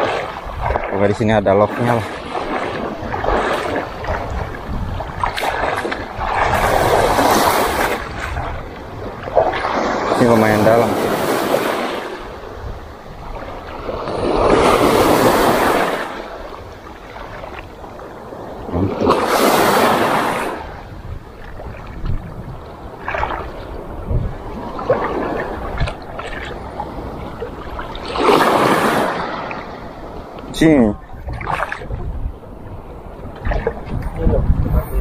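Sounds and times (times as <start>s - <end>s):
small waves breaking in shallow water: 0.0s - 35.0s.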